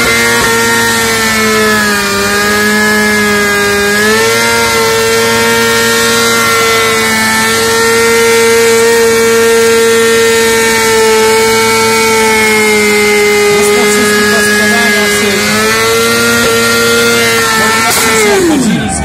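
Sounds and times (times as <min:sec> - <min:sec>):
tyre spinning on asphalt: 0:00.0 - 0:18.9
motorcycle engine at high revs: 0:00.0 - 0:19.0.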